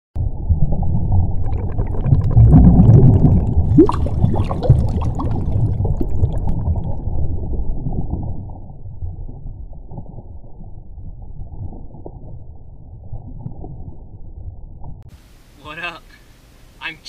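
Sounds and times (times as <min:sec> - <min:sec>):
gurgling bubbles: 0:00.2 - 0:14.6
underwater low rumble: 0:00.2 - 0:15.1.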